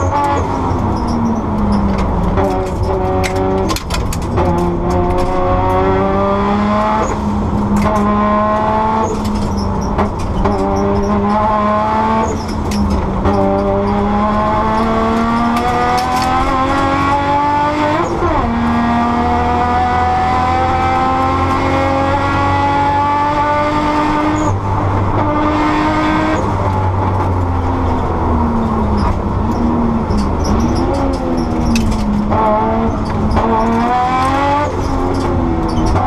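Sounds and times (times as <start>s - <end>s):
car engine pulling hard: 0.0s - 36.0s
tyre and road rumble: 0.0s - 36.0s.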